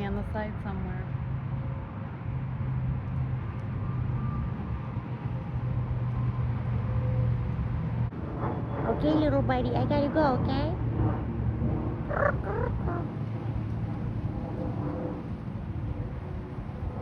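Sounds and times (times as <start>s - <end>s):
constant wash of noise: 0.0s - 17.0s
vehicle engine humming: 0.0s - 17.0s.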